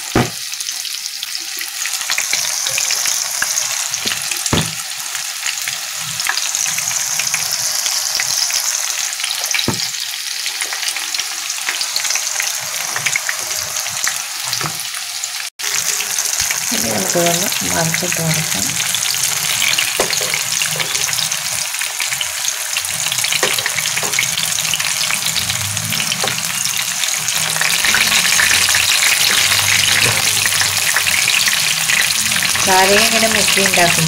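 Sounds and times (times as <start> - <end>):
fritters sizzling in hot oil: 0.0 - 34.0.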